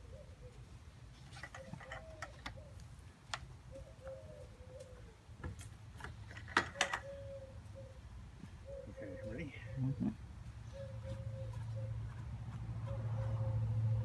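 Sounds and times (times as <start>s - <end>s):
bird calling low phrases: 1.4s - 5.4s, 6.6s - 14.0s.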